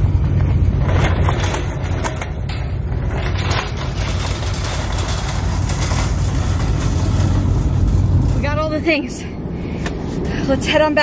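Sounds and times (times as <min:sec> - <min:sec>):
shopping cart rattling over snow: 0:00.0 - 0:09.1.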